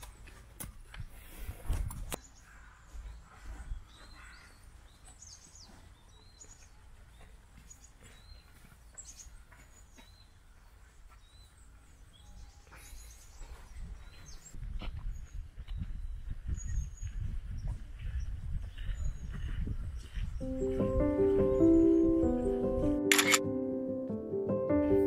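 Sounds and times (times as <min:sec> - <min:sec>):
small birds chirping: 0:00.0 - 0:23.3.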